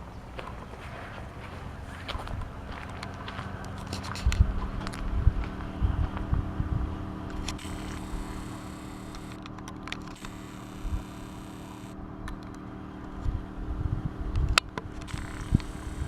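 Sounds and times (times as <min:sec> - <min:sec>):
low rumbling: 0:00.0 - 0:16.0
steady low hum: 0:00.0 - 0:16.0.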